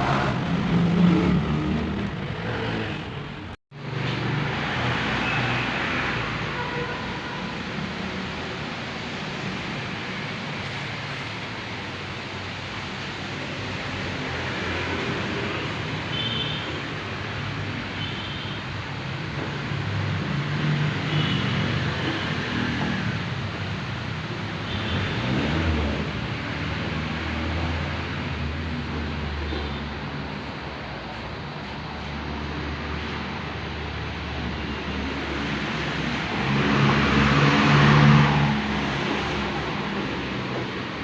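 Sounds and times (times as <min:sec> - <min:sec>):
vehicle engines passing: 0:00.0 - 0:18.0, 0:18.6 - 0:41.0.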